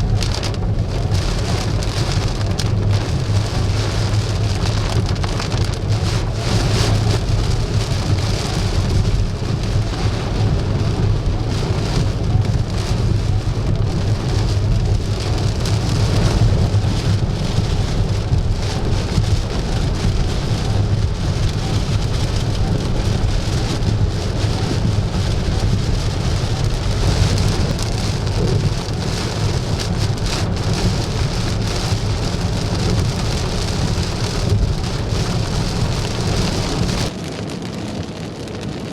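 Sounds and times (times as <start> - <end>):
heavy rain pouring: 0.0 - 38.9
strong wind rumble: 0.0 - 38.9.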